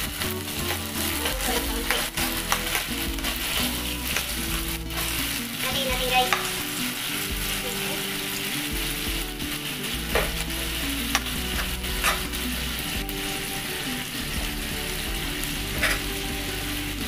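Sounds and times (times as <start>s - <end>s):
food sizzling in oil: 0.0s - 17.0s
metal spoon stirring: 0.0s - 17.0s.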